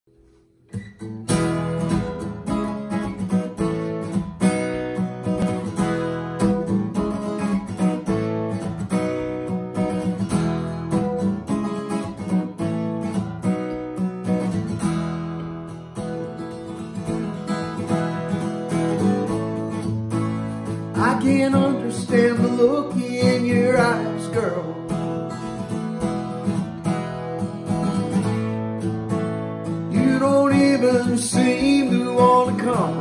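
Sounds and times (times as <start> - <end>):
acoustic guitar strumming: 0.1 - 33.0.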